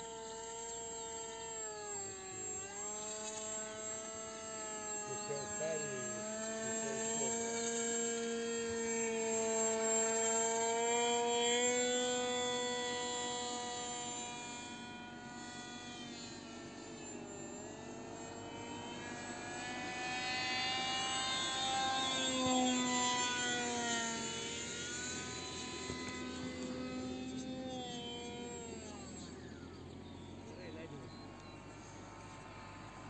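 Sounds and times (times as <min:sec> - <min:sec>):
model airplane electric motor whine: 0:00.0 - 0:33.0.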